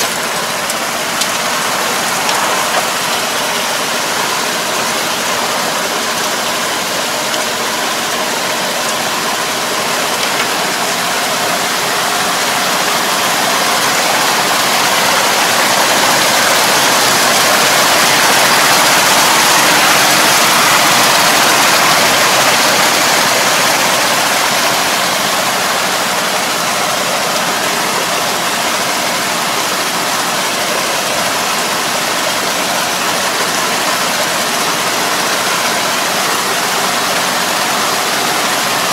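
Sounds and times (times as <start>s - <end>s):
splashing muddy water: 0.0s - 38.9s
tractor engine running: 0.0s - 38.9s.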